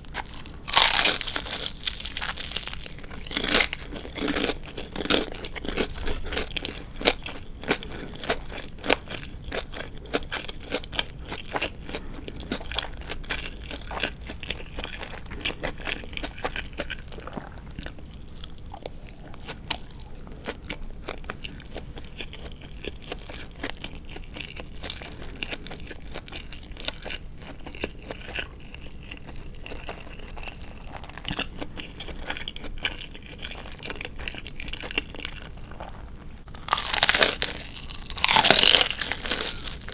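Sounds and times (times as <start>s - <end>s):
crunchy chewing of fried chicken: 0.0s - 39.9s.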